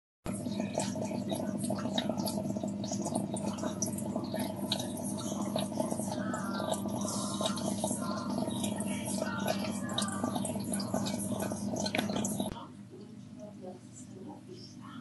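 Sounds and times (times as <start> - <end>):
aquarium water bubbling: 0.3 - 13.4
low electric hum: 0.3 - 15.0.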